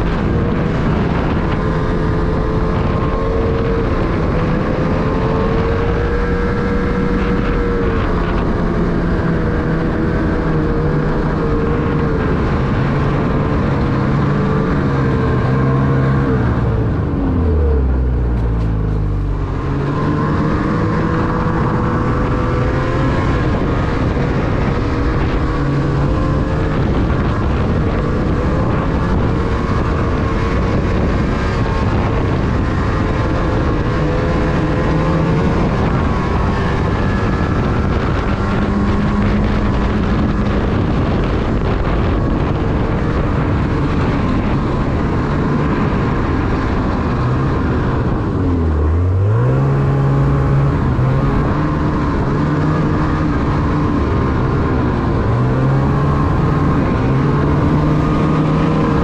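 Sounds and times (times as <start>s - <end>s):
snowmobile engine running: 0.0s - 59.0s
wind rush: 0.0s - 59.0s.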